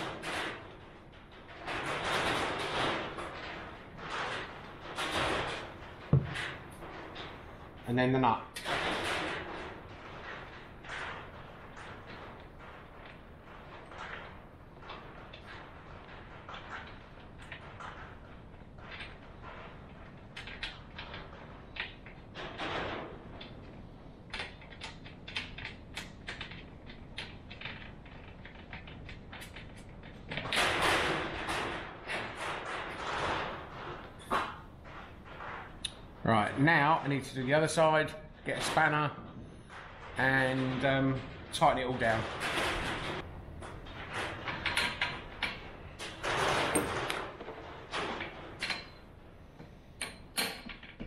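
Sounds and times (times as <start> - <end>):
metal parts clicking and scraping: 8.6 - 51.0.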